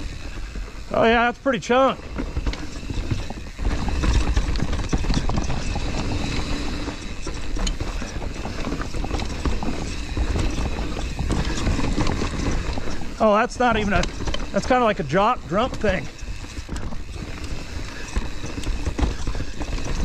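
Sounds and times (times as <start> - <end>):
bike clattering over rocks: 0.0 - 20.0.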